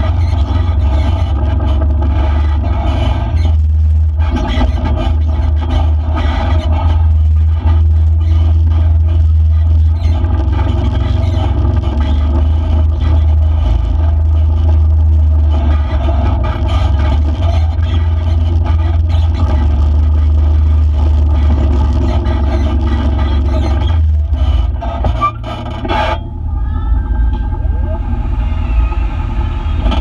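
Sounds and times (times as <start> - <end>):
off-road vehicle rumbling: 0.0 - 30.0.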